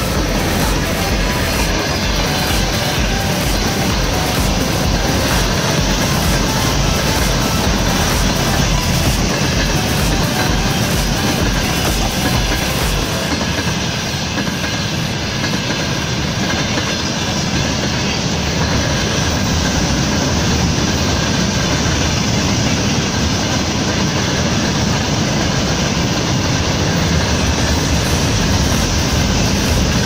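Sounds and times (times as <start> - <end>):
freight train wagons rumbling: 0.0 - 30.0.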